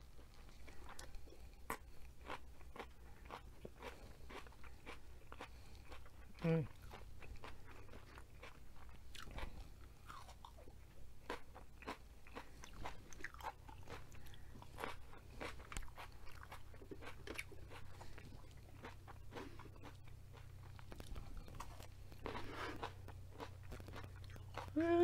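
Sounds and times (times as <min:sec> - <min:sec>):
crunching bell pepper: 0:00.4 - 0:24.8.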